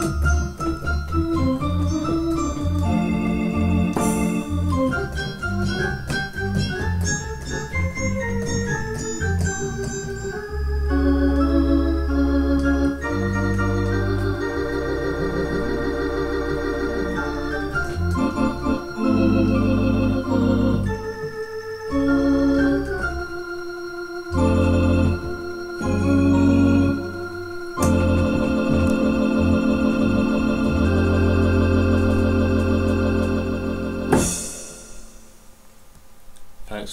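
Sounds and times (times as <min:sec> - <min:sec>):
electronic keyboard organ chords: 0:00.0 - 0:35.9.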